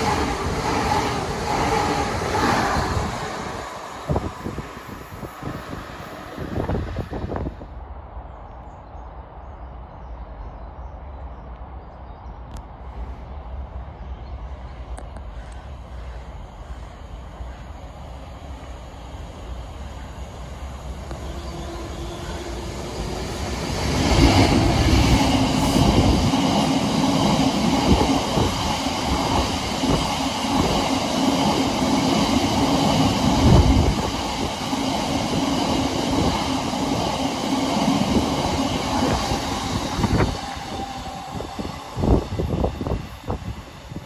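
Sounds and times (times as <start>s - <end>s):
train passing with low drone: 0.0s - 44.0s.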